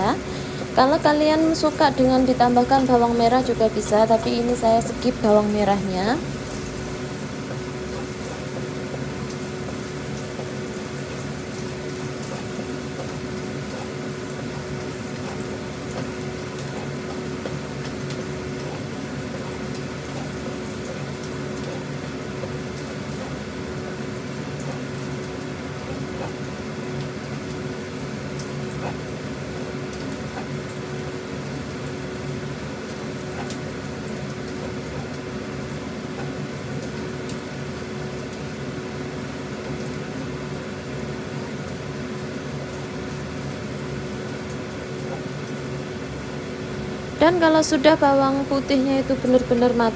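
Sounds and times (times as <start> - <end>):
steady hum: 0.0 - 41.3
garlic sizzling in oil: 0.0 - 49.9.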